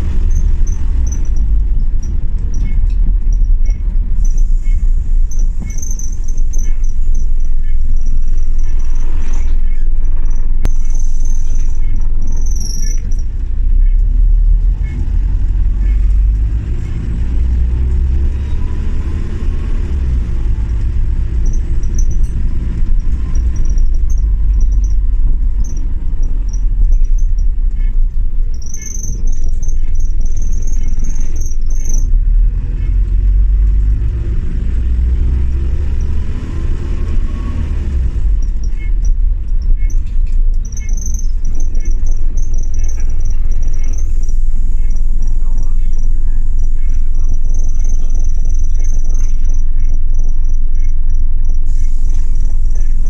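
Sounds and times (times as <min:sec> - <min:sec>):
regular ticks: 0:00.0 - 0:37.2, 0:37.8 - 0:52.3
bus engine and road rumble: 0:00.0 - 0:53.0.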